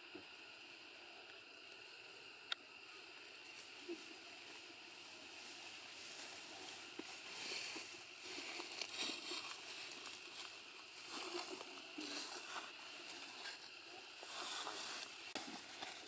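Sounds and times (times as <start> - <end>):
faint rustling and crackling: 3.0 - 16.0.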